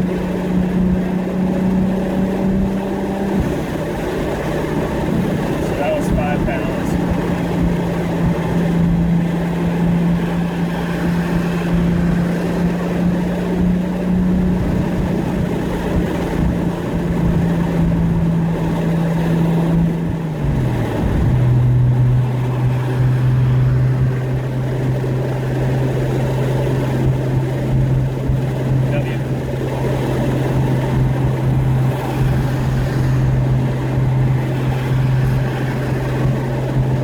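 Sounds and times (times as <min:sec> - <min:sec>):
car engine cruising: 0:00.0 - 0:37.0.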